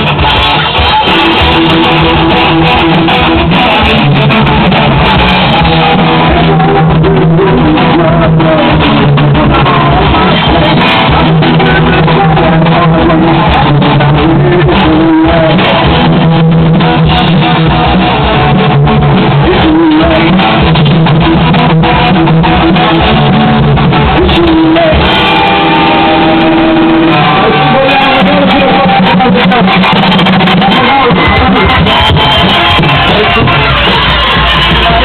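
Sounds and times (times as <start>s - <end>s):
guitar: 0.0s - 35.0s
loud rock music: 0.0s - 35.0s
person singing: 0.0s - 35.0s.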